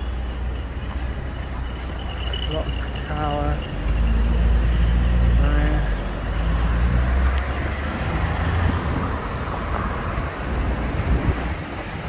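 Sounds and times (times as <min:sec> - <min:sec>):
cars passing close by: 0:00.0 - 0:12.0
steady low traffic rumble: 0:00.0 - 0:12.0.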